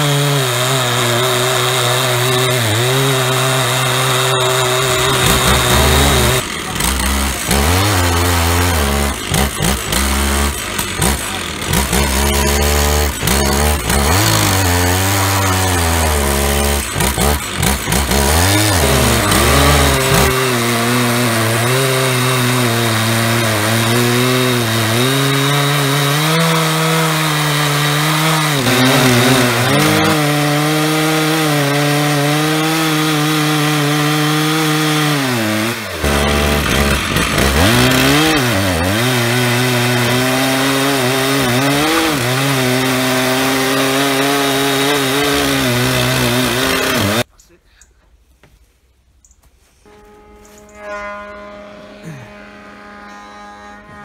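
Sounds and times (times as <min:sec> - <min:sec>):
chainsaws ripping a log: 0:00.0 - 0:47.3.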